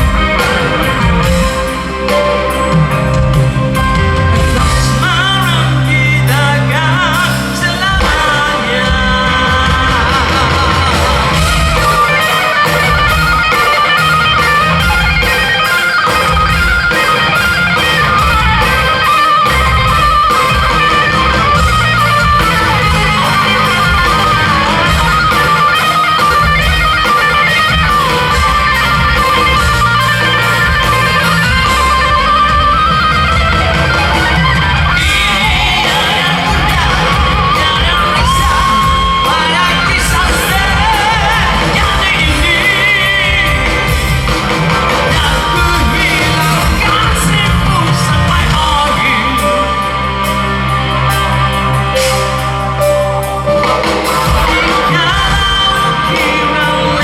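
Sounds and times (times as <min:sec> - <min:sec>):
electric guitar lead: 0:00.0 - 0:57.0
rock band playing live: 0:00.0 - 0:57.0.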